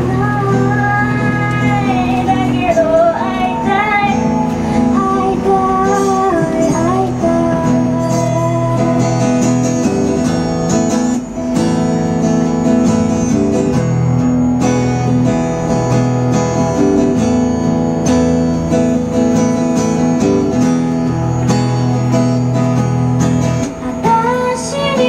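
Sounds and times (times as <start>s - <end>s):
acoustic guitar strumming chords: 0.0s - 25.0s.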